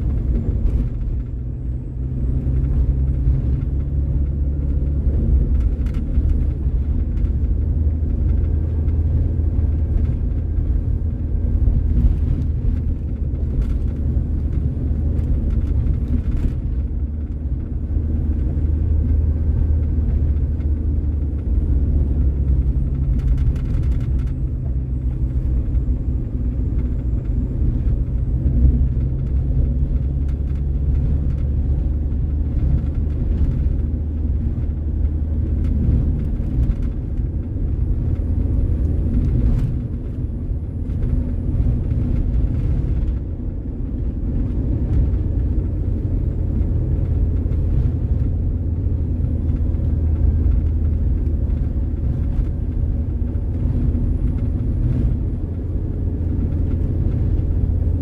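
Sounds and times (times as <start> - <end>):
road noise: 0.0 - 58.0
vehicle engine rumble: 0.0 - 58.0.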